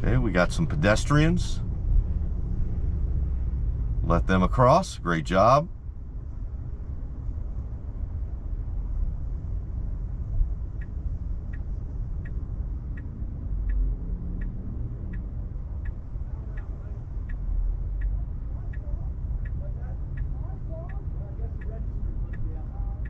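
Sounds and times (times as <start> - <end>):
turn signal ticking: 0.0 - 6.3, 7.5 - 23.0.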